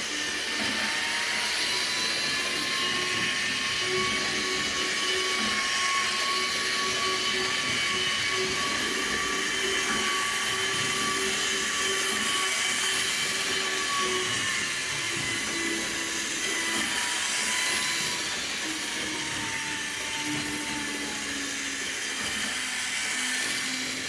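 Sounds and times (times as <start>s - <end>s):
model train motor whine: 0.0s - 24.0s.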